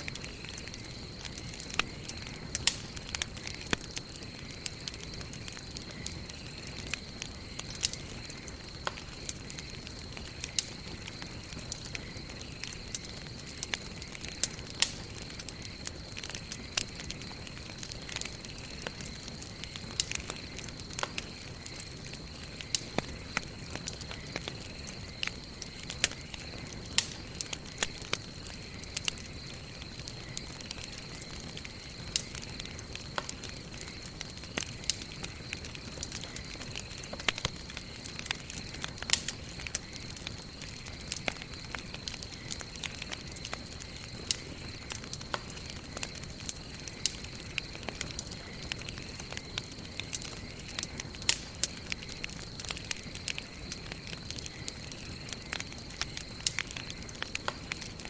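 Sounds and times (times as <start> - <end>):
campfire crackling and popping: 0.0 - 58.0
low steady fire hiss: 0.0 - 58.0.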